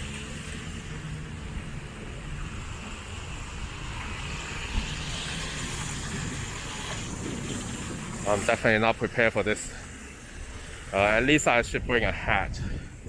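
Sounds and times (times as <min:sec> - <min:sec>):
hiss of wet roads: 0:00.0 - 0:11.5
traffic rumble: 0:00.0 - 0:13.0.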